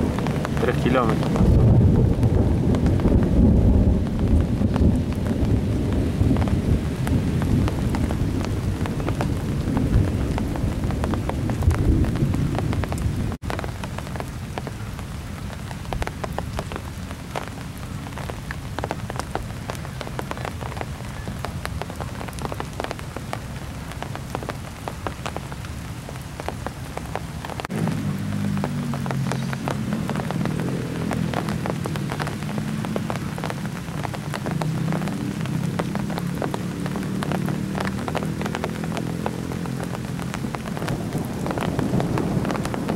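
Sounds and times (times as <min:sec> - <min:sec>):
heavy rain: 0:00.0 - 0:42.9
raindrops ticking near microphone: 0:00.0 - 0:42.9
thunder rumbling: 0:00.0 - 0:42.9.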